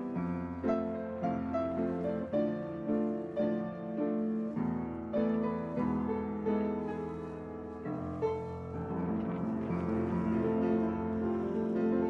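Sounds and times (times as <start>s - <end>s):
slow piano piece: 0.0s - 12.0s.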